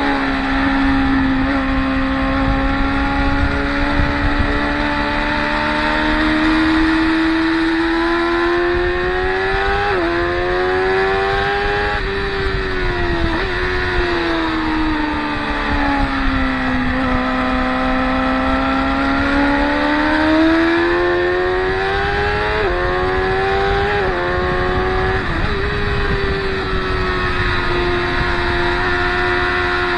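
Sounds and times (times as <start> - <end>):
motorcycle engines at high revs: 0.0 - 29.9.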